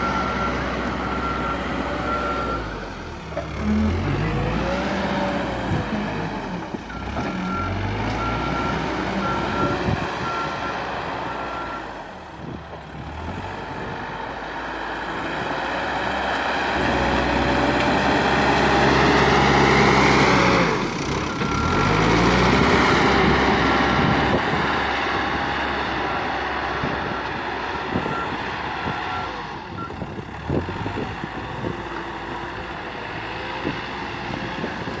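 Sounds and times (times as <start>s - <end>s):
diesel engine revving: 0.0s - 35.0s.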